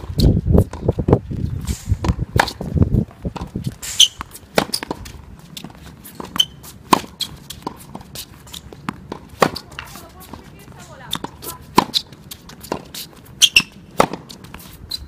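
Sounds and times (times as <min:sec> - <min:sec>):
tennis balls bouncing on court: 0:00.0 - 0:15.0
tennis balls struck by rackets: 0:01.7 - 0:14.9.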